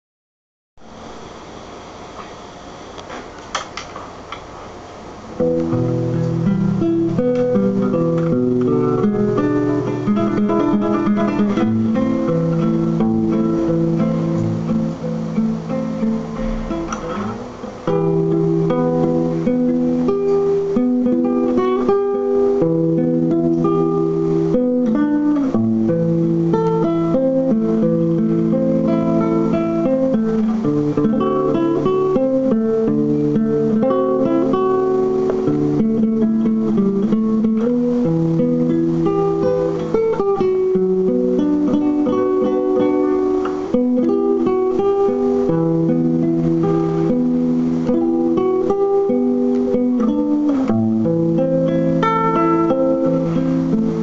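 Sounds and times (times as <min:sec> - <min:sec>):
guitar strumming chords with melody: 0:05.0 - 0:54.0.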